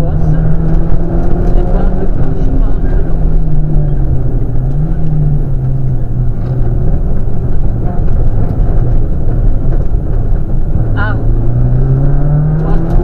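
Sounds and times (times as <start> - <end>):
rally car engine: 0.0 - 13.0
road and wind rush: 0.0 - 13.0.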